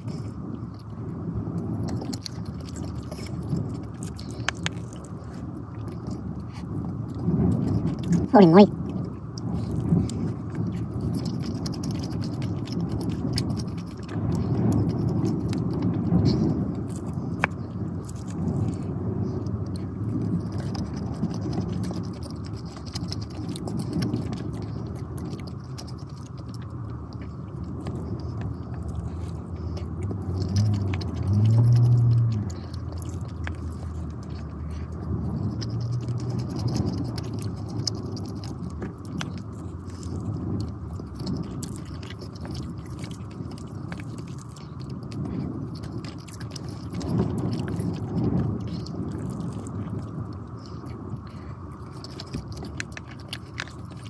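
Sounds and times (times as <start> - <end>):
chewing and mouth sounds: 0.0 - 54.0.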